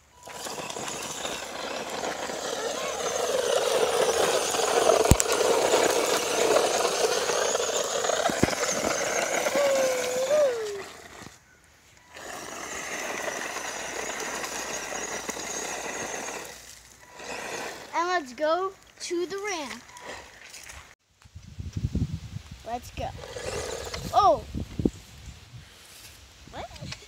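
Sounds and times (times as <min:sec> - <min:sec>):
toy car motor whirring: 0:00.0 - 0:20.7, 0:23.1 - 0:24.4.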